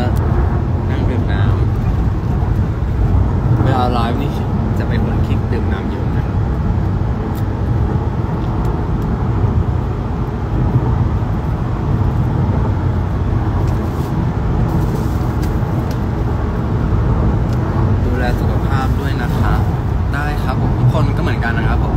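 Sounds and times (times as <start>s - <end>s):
bus engine and road noise: 0.0s - 21.9s.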